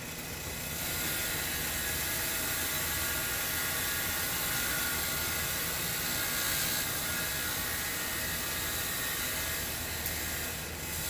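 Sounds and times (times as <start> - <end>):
grinder motor hum: 0.0 - 11.0
wire brush scrubbing metal: 0.0 - 11.0.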